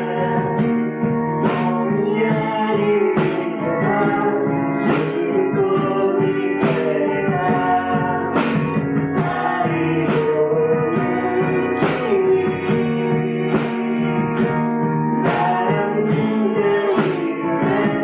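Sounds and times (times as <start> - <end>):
guitar chords strummed: 0.0 - 18.0.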